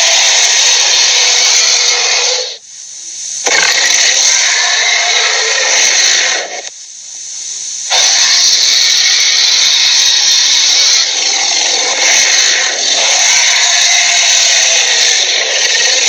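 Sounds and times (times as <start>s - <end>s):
harsh rasping creature hiss: 0.0s - 16.0s.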